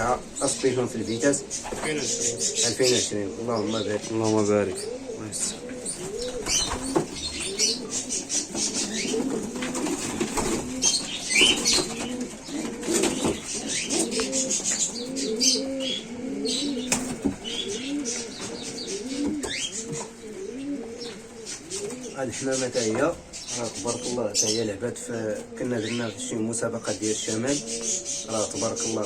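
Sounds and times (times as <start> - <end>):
pigeons cooing: 0.0 - 29.0.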